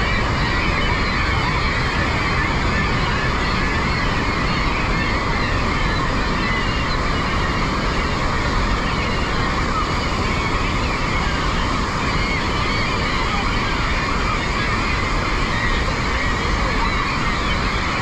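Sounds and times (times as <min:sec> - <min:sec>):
gulls calling: 0:00.0 - 0:18.0
rushing whitewater: 0:00.0 - 0:18.0.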